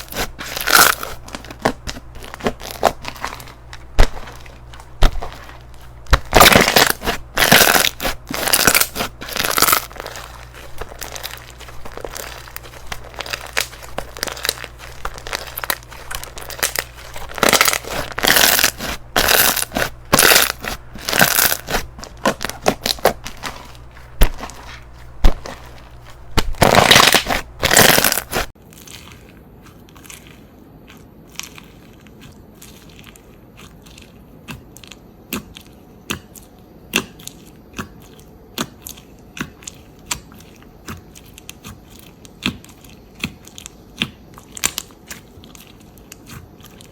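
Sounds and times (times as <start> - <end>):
slime with beads crunching: 0.0 - 35.8, 37.2 - 46.9.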